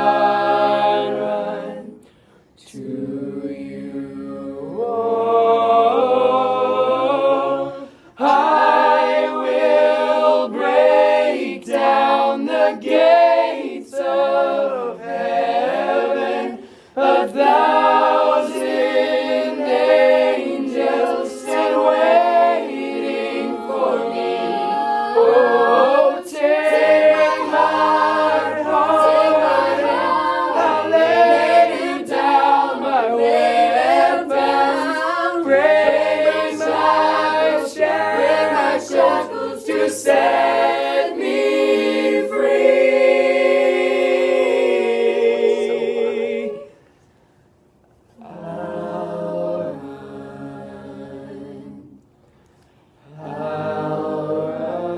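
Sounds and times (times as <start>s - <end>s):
group singing in close harmony: 0.0s - 47.1s, 48.1s - 52.1s, 52.9s - 54.9s.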